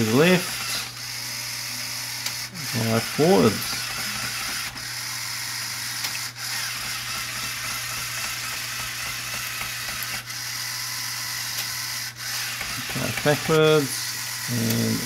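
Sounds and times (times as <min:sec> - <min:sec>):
toy motor and gears whirring: 0:00.0 - 0:15.0.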